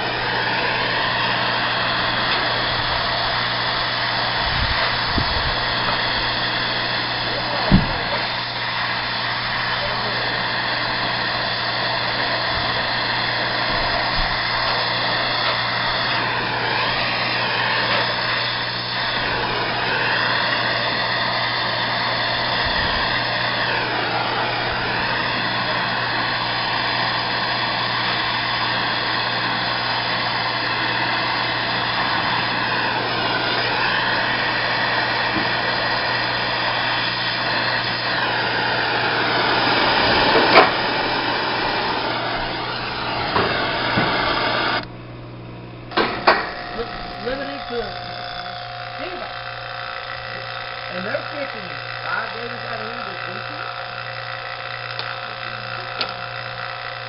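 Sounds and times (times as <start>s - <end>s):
torch flame hissing: 0.0s - 45.0s, 45.7s - 57.0s
steady low hum: 0.0s - 57.0s.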